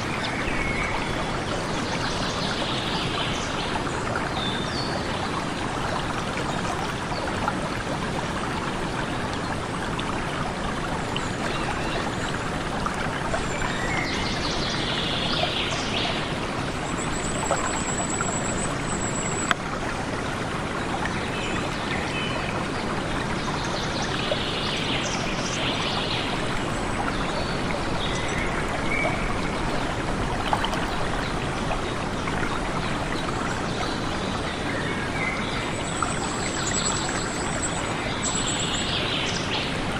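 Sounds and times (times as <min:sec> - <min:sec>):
flowing stream rushing: 0:00.0 - 0:39.9.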